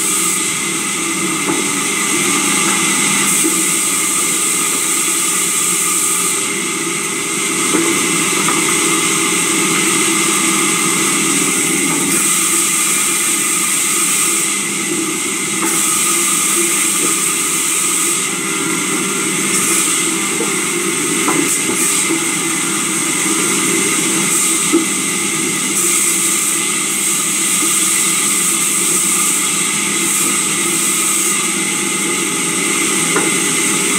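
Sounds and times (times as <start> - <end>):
sawmill saw cutting timber: 0.0 - 33.9.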